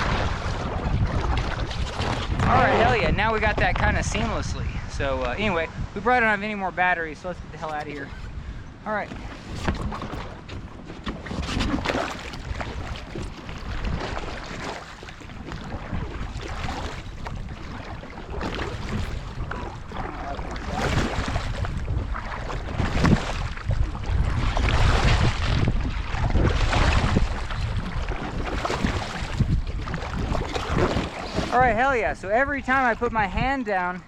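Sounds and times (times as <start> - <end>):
paddle splashing water: 0.0 - 4.2, 6.1 - 34.0
wind buffeting microphone: 0.0 - 34.0.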